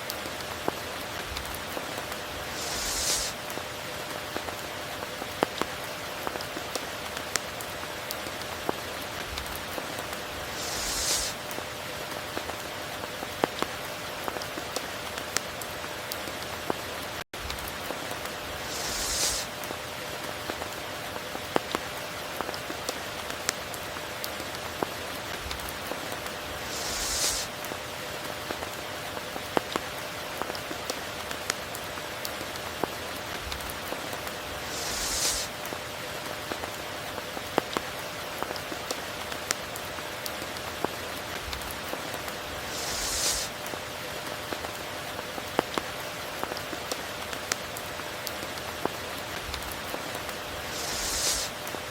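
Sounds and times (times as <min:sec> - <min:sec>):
sharp raindrops striking: 0:00.0 - 0:51.9
hissing swell of rain: 0:00.1 - 0:15.9, 0:17.5 - 0:37.2, 0:41.1 - 0:45.2, 0:47.7 - 0:51.9
heavy rain falling: 0:00.2 - 0:45.6.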